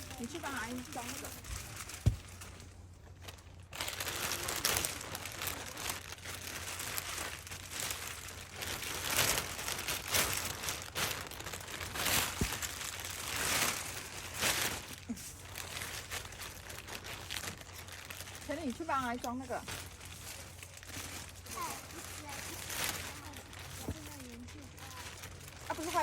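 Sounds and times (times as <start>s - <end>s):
bags rustling and crinkling: 0.0s - 26.0s.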